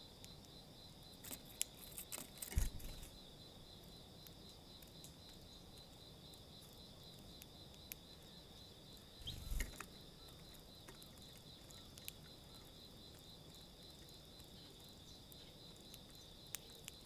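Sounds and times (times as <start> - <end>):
insect buzzing: 0.0 - 17.0.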